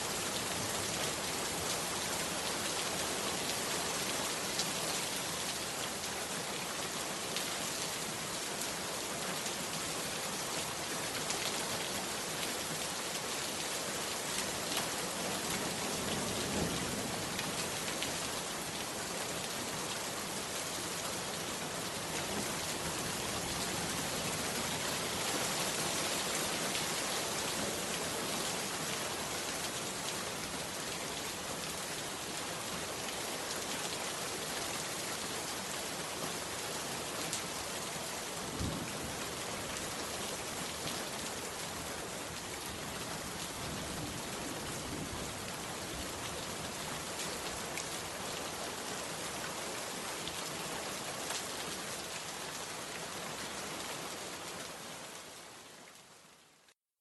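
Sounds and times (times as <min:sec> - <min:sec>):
heavy rain falling: 0:00.0 - 0:56.7.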